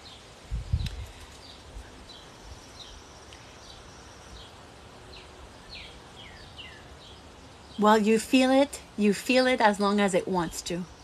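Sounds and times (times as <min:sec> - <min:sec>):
faint outdoor background hiss: 0:00.0 - 0:11.0.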